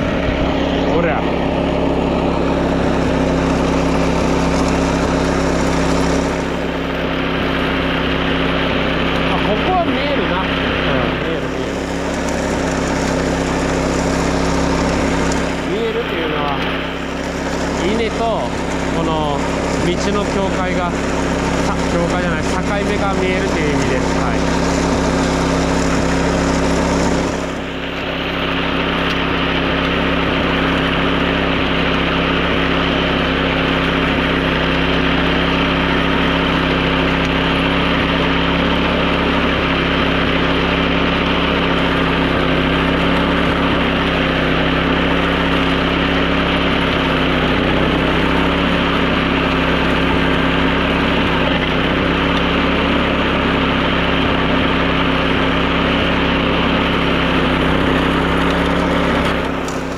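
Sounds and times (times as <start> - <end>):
mower engine running: 0.0 - 59.9.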